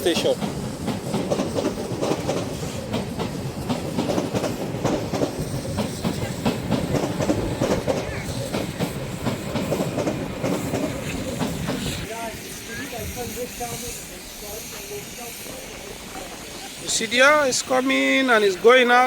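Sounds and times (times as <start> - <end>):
train wheels rumbling and clattering: 0.0 - 19.0.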